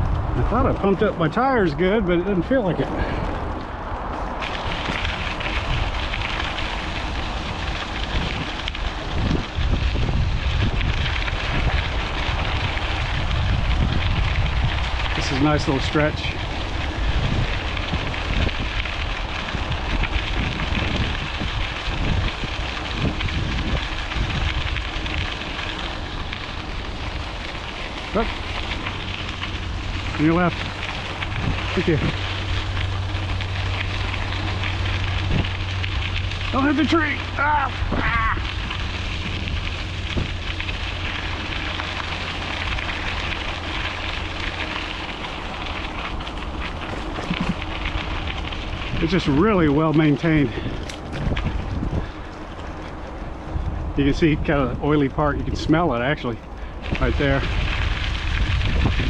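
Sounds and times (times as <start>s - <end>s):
tyres crackling over gravel: 0.0s - 59.0s
wind buffeting microphone: 0.0s - 59.0s.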